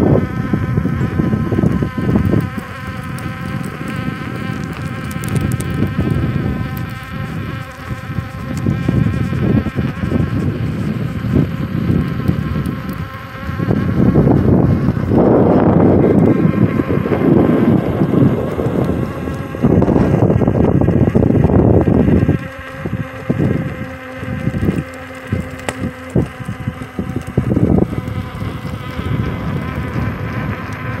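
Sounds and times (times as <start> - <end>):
electric motor whining: 0.0 - 31.0
wind rumble on microphone: 0.0 - 31.0.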